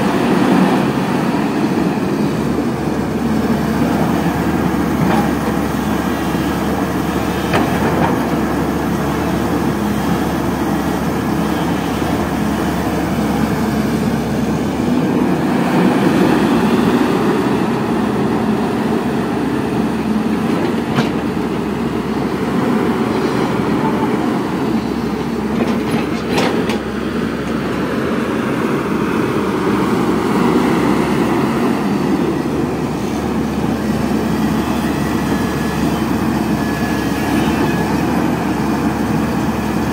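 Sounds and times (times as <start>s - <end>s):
excavator engine and hydraulics: 0.0s - 39.9s.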